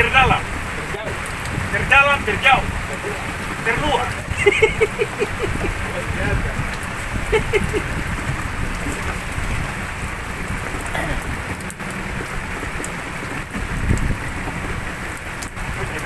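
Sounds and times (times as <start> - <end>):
heavy rain on boat: 0.0 - 16.0
low rumble: 0.0 - 16.0.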